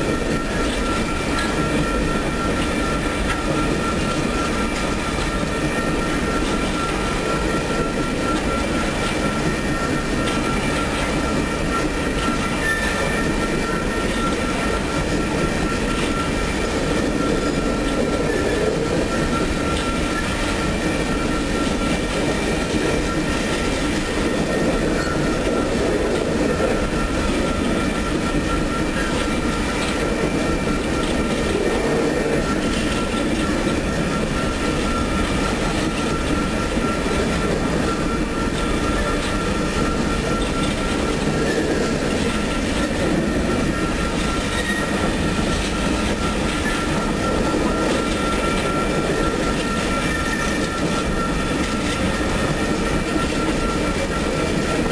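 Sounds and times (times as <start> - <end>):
high wheel squeal: 0.0 - 54.9
train wheels rumbling and rattling: 0.0 - 54.9.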